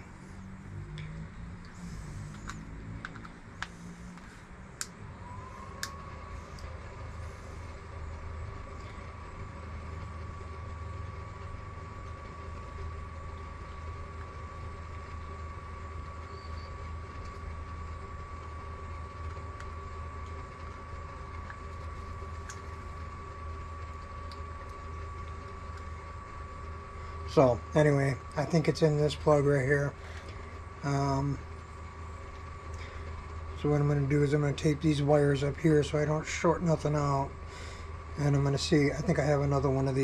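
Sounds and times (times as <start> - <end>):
steady low hum: 0.0 - 40.0
thin high whine: 0.0 - 40.0.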